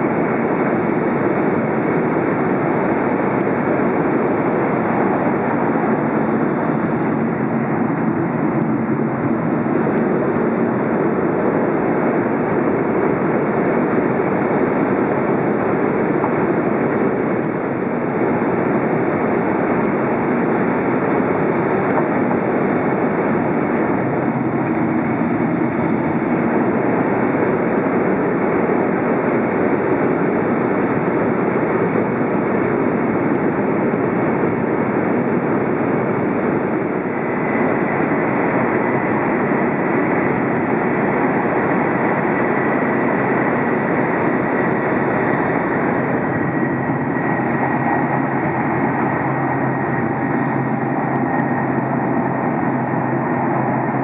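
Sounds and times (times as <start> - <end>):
faint high whine: 0.0 - 54.0
train rushing noise: 0.0 - 54.0.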